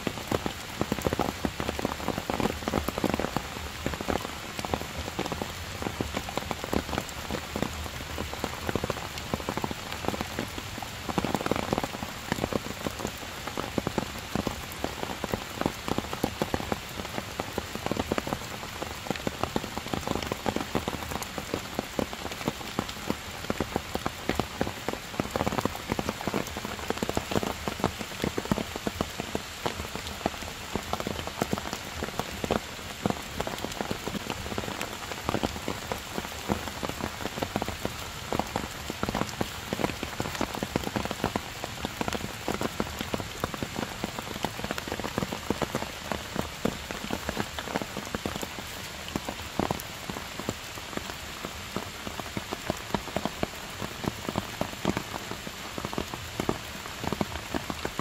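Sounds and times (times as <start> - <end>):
heavy rain falling: 0.0 - 58.0
raindrops ticking on stone and leaves: 0.0 - 58.0.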